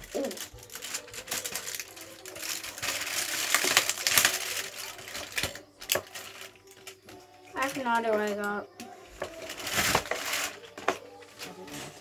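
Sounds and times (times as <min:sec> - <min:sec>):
packaging crinkling: 0:00.0 - 0:08.5, 0:09.2 - 0:12.0
small hard pieces clicking: 0:00.0 - 0:11.0.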